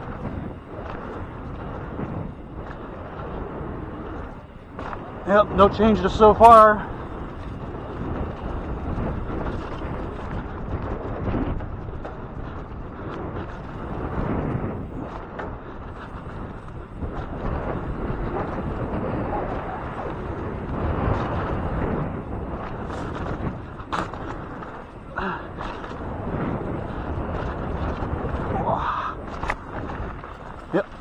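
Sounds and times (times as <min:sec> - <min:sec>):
tyres rolling on dirt: 0:00.0 - 0:31.0
wind on microphone: 0:00.0 - 0:31.0.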